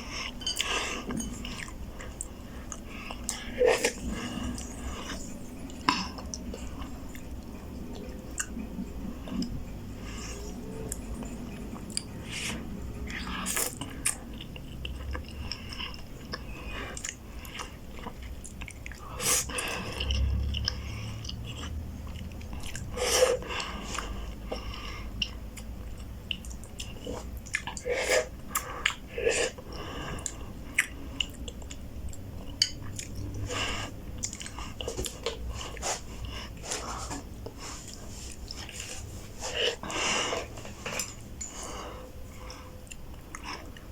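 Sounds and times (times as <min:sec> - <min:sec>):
person chewing noodles: 0:00.0 - 0:43.9.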